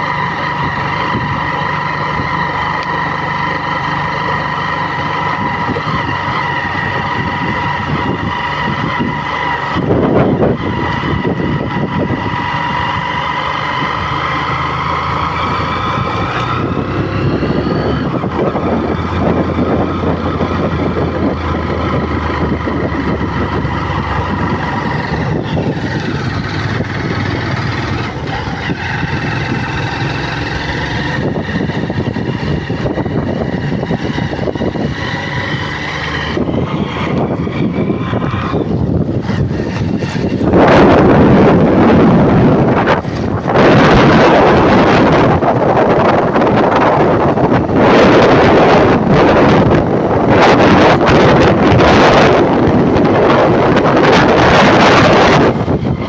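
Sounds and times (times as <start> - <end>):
high whine: 0.0 - 56.0
loud rumble: 0.0 - 56.0
vehicle engine running: 0.0 - 56.0.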